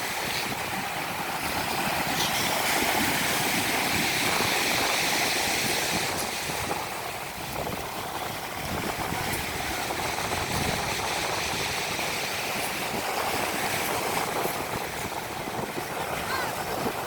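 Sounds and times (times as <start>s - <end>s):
rough waves washing: 0.0s - 17.0s.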